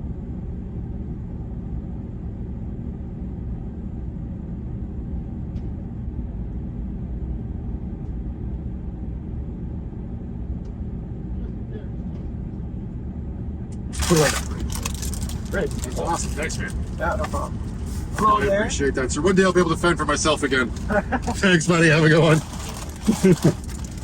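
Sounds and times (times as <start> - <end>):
van engine low rumble: 0.0 - 24.0.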